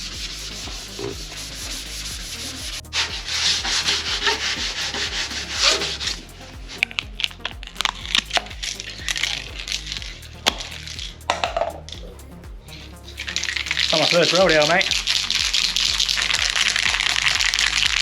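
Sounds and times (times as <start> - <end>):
faint background music: 0.0 - 18.0
sanding rust off metal: 0.0 - 18.0.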